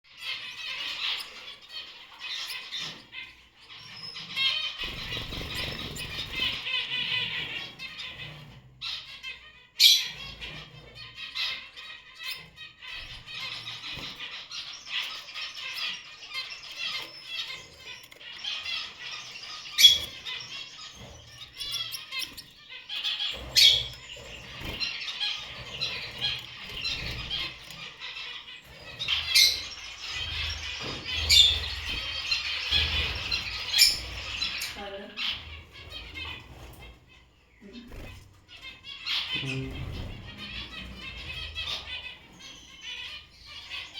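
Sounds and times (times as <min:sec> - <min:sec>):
finches chirping: 0:00.1 - 0:43.9.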